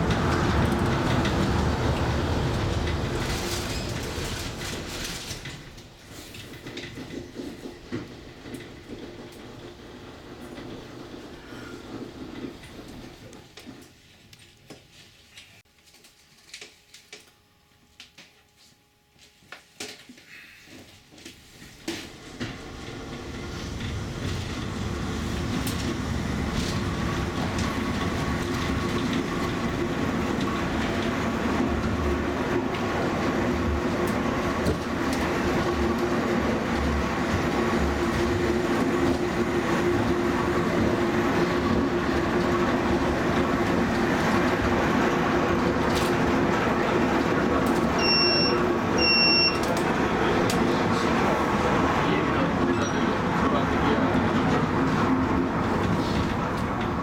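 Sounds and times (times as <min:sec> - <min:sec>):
funicular car rumbling: 0:00.0 - 0:13.8, 0:22.0 - 0:57.0.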